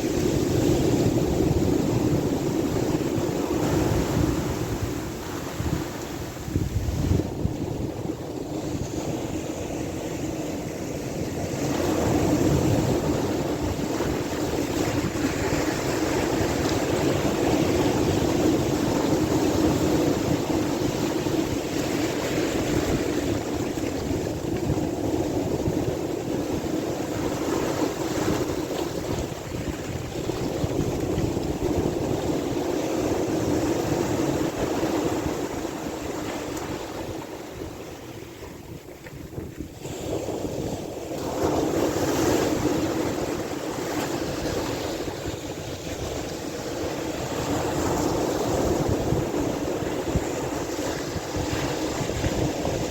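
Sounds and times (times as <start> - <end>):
sea waves washing: 0.0 - 52.9
wind buffeting microphone: 0.0 - 52.9.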